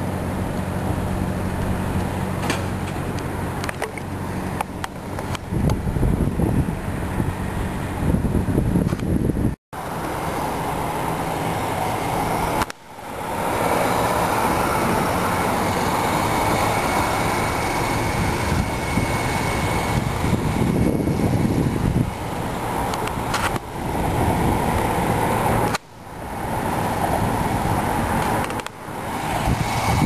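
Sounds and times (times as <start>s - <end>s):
road and wind noise: 0.0s - 30.0s
vehicle engine hum: 0.0s - 30.0s.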